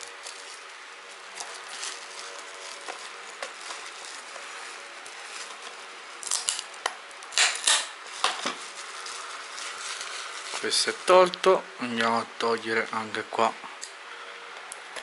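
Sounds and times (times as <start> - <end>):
plastic shrink-wrap crinkling: 0.0 - 12.2.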